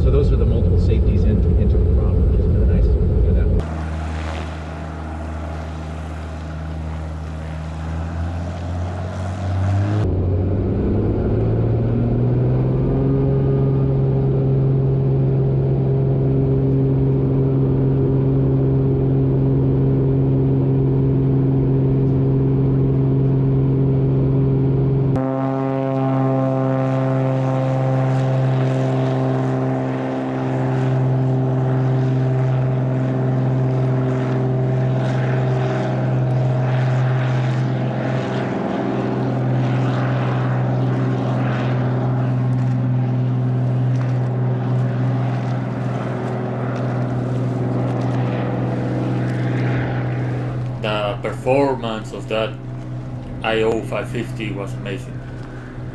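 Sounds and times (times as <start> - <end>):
plane propeller drone: 0.0 - 55.9.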